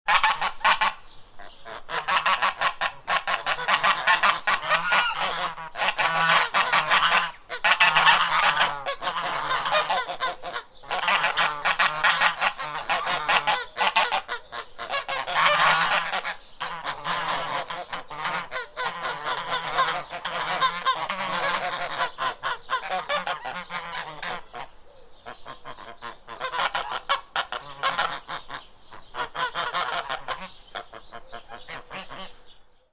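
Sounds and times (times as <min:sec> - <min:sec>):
geese honking: 0:00.1 - 0:32.6.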